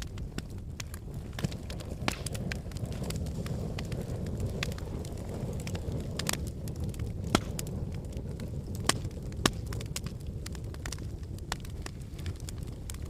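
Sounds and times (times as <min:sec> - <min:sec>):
fire crackling and popping: 0:00.0 - 0:13.0
fire flames rushing: 0:00.0 - 0:13.0.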